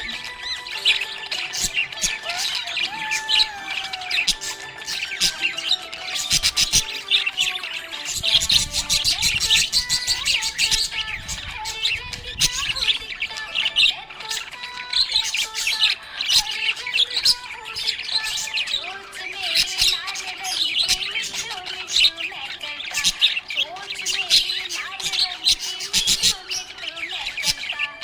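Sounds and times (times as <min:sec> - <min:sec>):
parrots chirping and squawking: 0:00.0 - 0:28.0.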